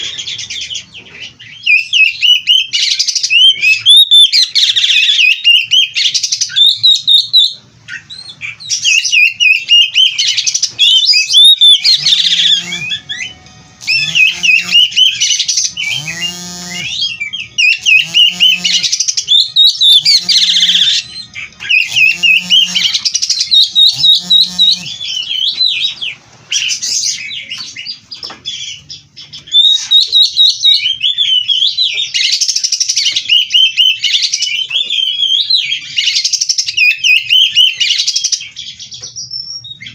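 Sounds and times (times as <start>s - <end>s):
lower repeated bird call: 0.0s - 28.0s, 28.6s - 39.9s
bird singing warbling song: 0.0s - 39.9s.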